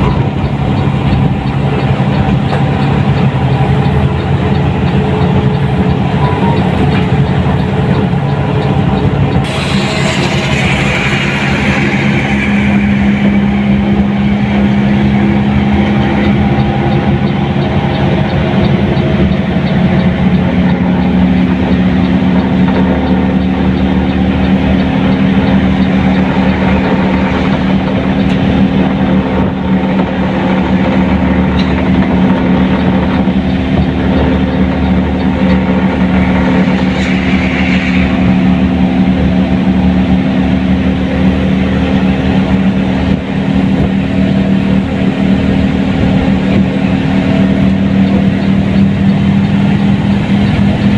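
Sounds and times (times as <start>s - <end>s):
bus engine drone: 0.0s - 50.9s
road noise: 0.0s - 50.9s.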